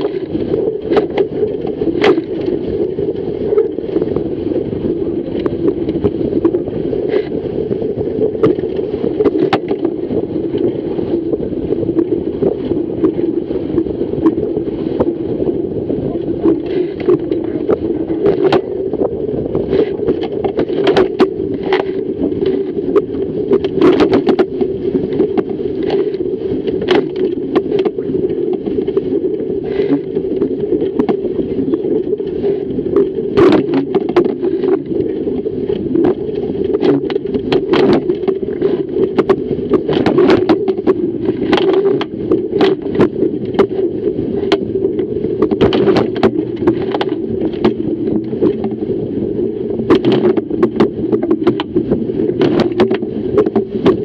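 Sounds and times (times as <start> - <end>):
water rushing along a hull: 0.0 - 54.0
waves slapping the bow: 0.0 - 54.0.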